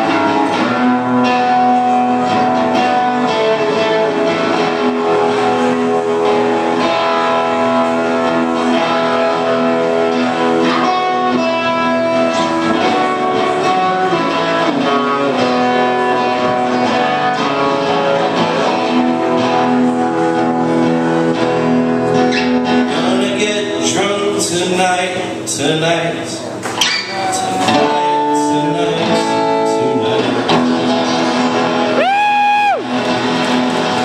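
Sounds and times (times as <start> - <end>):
electric guitar: 0.0 - 34.0
live band music: 0.0 - 34.0.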